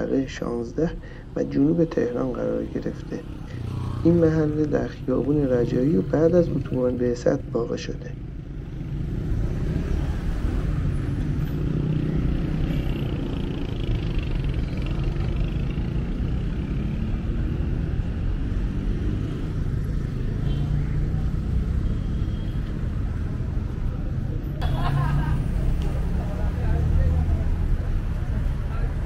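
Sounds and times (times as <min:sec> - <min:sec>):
cars passing close by: 0:00.0 - 0:29.0.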